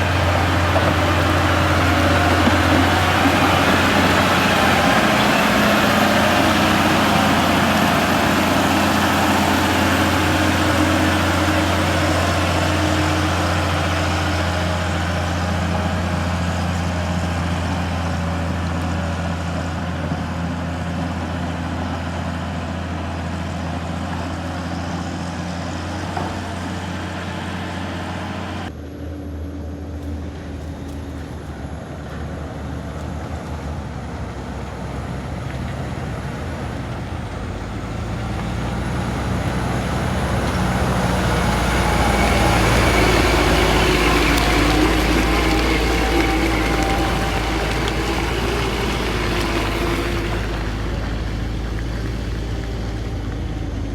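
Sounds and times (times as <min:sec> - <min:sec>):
heavy truck engine humming: 0:00.0 - 0:53.9.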